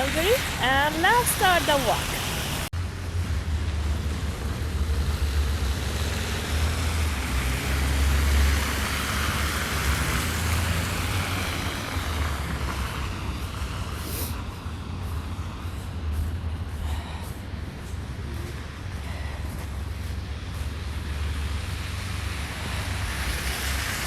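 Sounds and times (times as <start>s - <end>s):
vehicle passing on snowy road: 0.0s - 24.0s.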